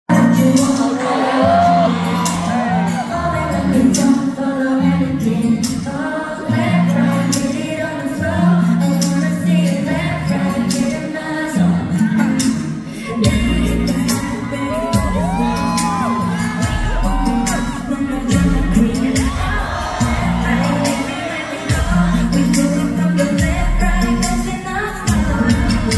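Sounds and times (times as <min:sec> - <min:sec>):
pop backing track with bass: 0:00.1 - 0:25.9
woman singing: 0:00.1 - 0:25.9.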